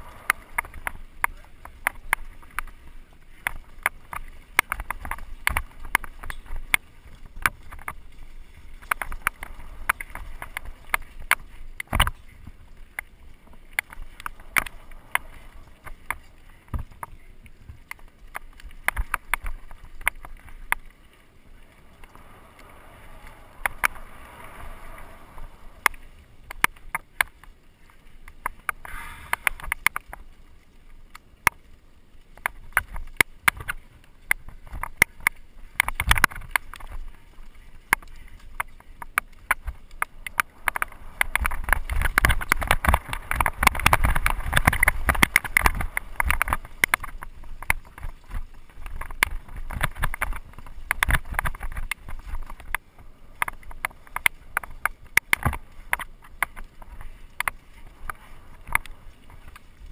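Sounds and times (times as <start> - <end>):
bike clicks and knocks on bumps: 0.0 - 20.9, 21.6 - 30.3, 32.3 - 59.9.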